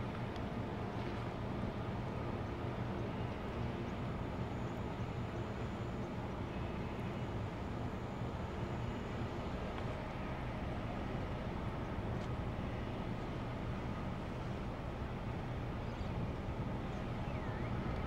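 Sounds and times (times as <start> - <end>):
ship machinery rumble and hum: 0.0 - 18.0.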